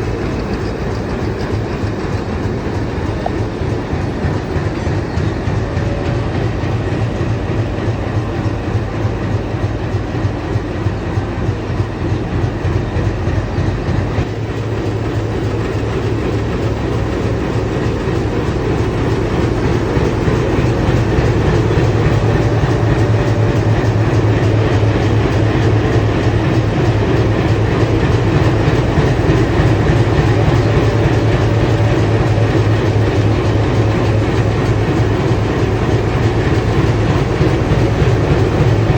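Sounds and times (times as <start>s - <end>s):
diesel locomotive engine chugging: 0.0s - 38.9s.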